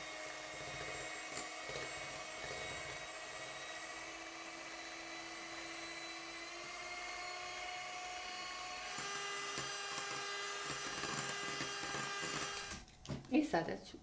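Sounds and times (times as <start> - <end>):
electric mixer whipping: 0.0 - 12.8.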